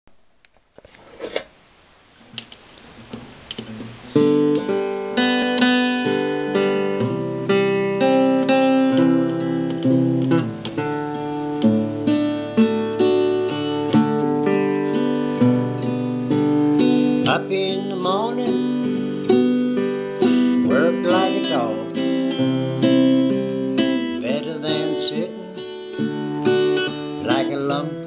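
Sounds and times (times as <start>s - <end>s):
acoustic guitar strumming: 2.4s - 28.0s.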